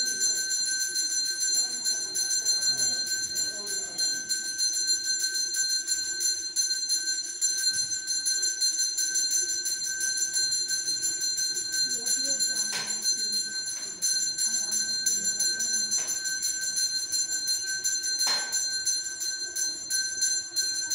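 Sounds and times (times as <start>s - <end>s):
temple bell ringing: 0.0s - 20.9s.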